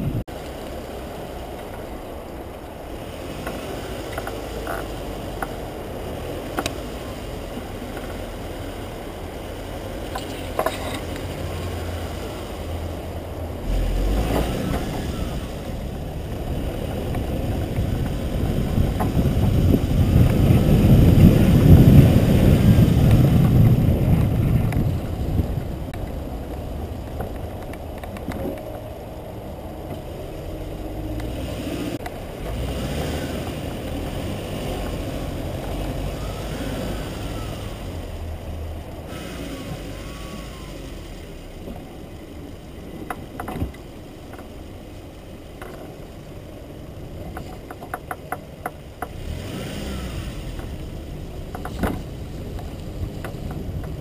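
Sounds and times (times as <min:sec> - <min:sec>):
engine and tyres rumbling on dirt: 0:00.0 - 0:54.0.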